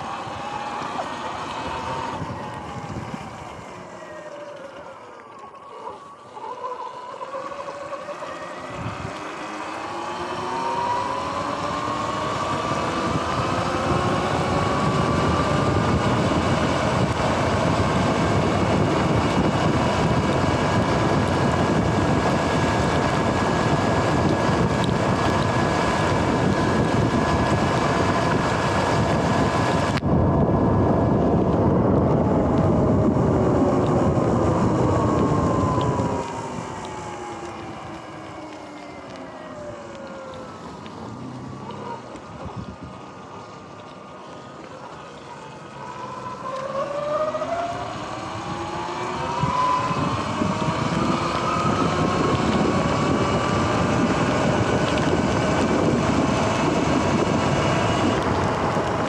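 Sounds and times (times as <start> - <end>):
wind buffeting microphone: 0.0 - 4.5, 8.3 - 59.0
electric motorbike motor whining: 0.0 - 59.0.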